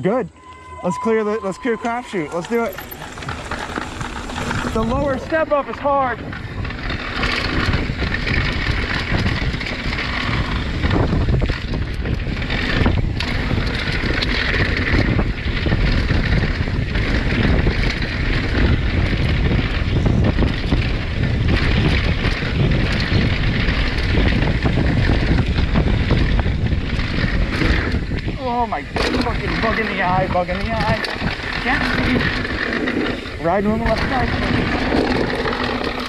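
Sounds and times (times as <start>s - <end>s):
bike tyres on dirt and rock: 0.0s - 36.0s
wind rushing over microphone: 0.0s - 36.0s
bike knocks and rattles: 1.9s - 36.0s.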